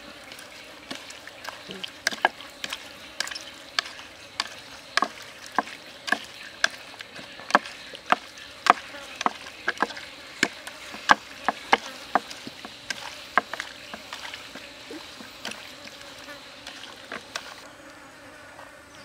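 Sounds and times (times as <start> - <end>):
wet squelching of squid mixed by hand: 0.0 - 17.7.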